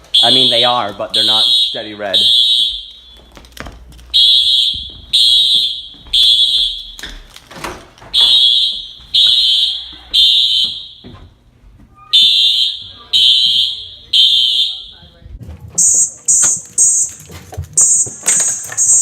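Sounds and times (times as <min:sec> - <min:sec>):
fire alarm beeping: 0:00.0 - 0:03.4, 0:04.1 - 0:07.2, 0:08.1 - 0:11.3, 0:12.0 - 0:15.2, 0:15.8 - 0:19.0.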